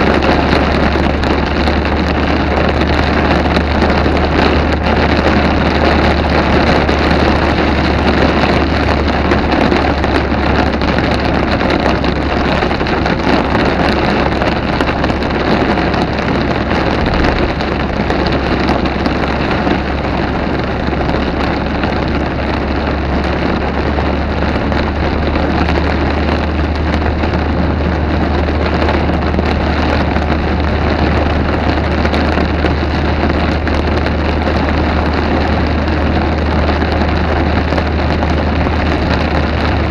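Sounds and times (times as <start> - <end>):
heavy rain hissing: 0.0 - 39.9
low rumble: 0.0 - 39.9.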